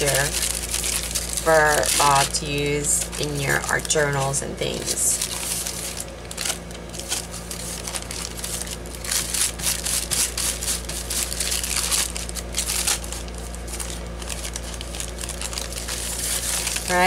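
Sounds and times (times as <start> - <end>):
waxed paper crinkling: 0.0 - 17.0.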